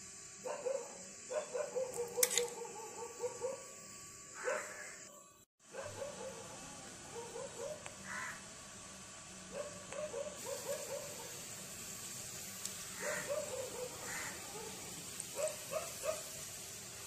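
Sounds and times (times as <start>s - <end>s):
hot oil sizzling: 0.0s - 5.0s, 6.6s - 17.0s.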